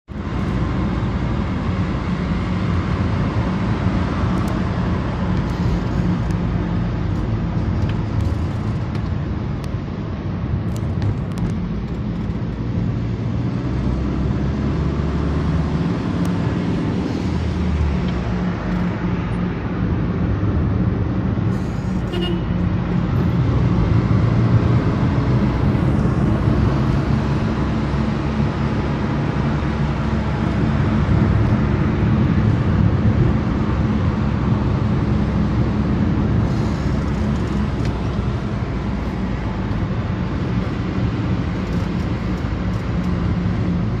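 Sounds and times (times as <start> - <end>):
low engine hum: 0.0 - 44.0
road noise: 0.0 - 44.0.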